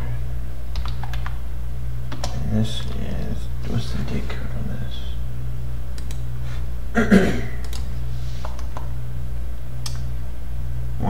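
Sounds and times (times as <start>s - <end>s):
computer hum: 0.0s - 11.0s.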